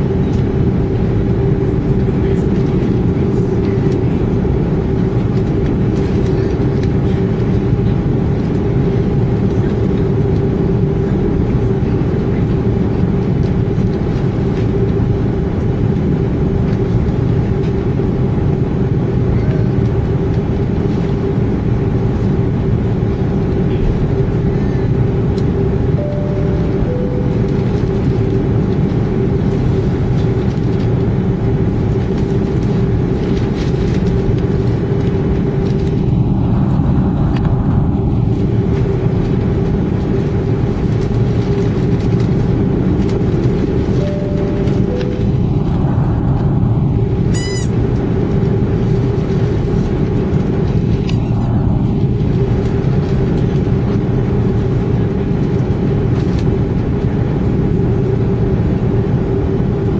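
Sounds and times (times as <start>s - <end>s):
airplane cabin engine rumble: 0.0s - 59.9s
mid-pitched hum: 0.0s - 59.9s.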